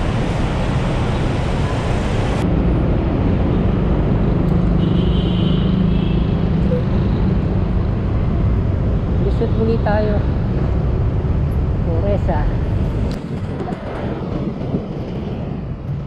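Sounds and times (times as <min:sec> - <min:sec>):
cars and motorcycles passing: 0:00.0 - 0:16.0.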